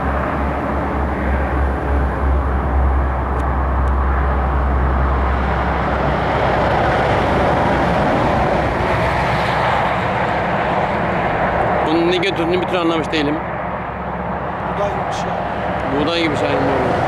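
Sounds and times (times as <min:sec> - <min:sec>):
motorway traffic rushing past: 0:00.0 - 0:17.0.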